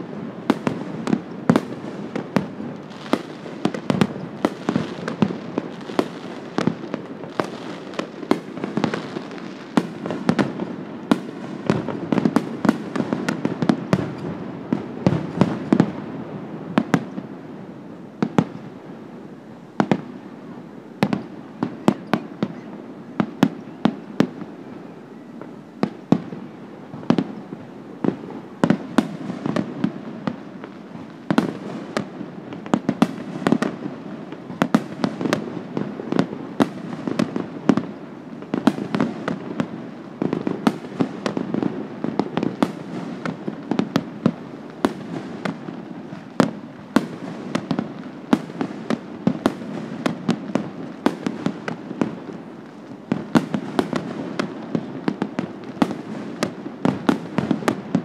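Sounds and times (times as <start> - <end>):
fireworks bangs: 0.0 - 19.2, 19.8 - 58.0.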